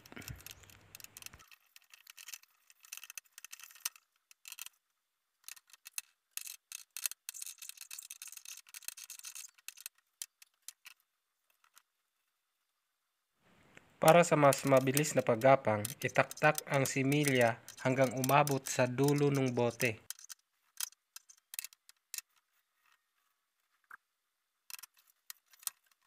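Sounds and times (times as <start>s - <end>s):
bottles clicking and rubbing: 0.0s - 11.9s, 13.5s - 26.0s.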